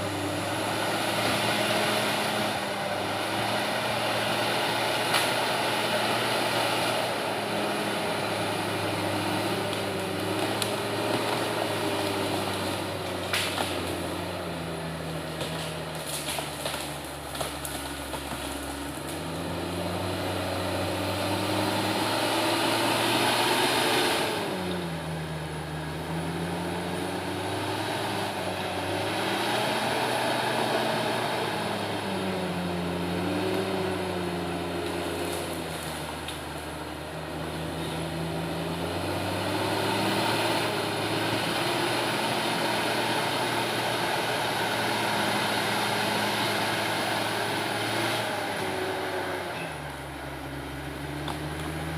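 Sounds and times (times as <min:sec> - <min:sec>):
bulldozer diesel engine working hard: 0:00.0 - 0:51.9.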